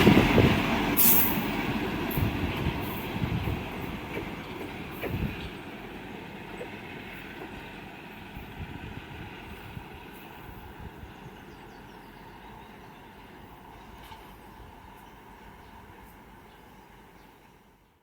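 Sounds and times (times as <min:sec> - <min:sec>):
railcar rolling and engine noise: 0:00.0 - 0:18.0.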